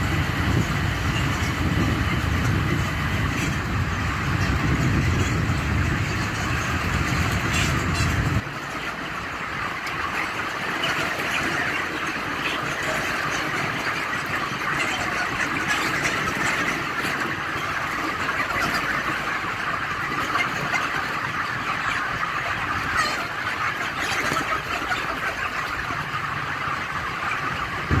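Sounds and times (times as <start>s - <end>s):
flock of chickens calling: 0.0s - 28.0s.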